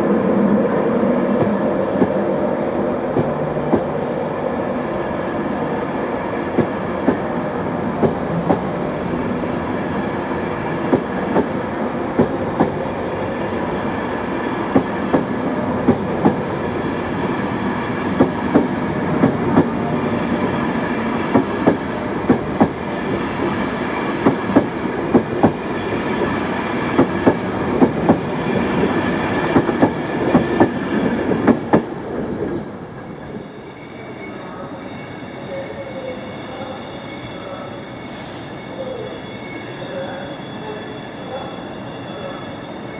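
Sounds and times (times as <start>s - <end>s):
train coaches rumbling past: 0.0s - 42.9s.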